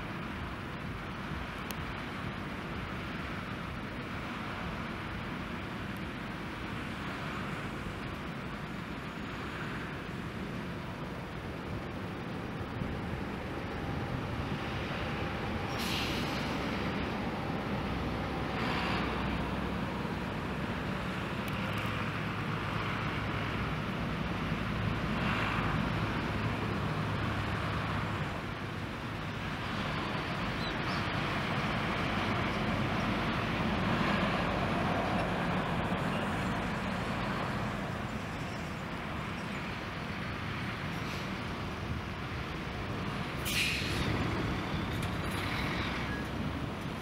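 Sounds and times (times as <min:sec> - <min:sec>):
jet engines rushing: 0:00.5 - 0:47.0.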